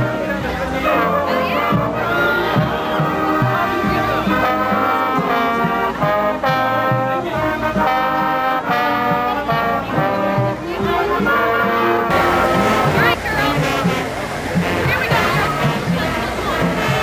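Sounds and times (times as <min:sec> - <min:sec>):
brass instruments playing chords: 0:00.0 - 0:17.0
low steady beat: 0:00.0 - 0:17.0.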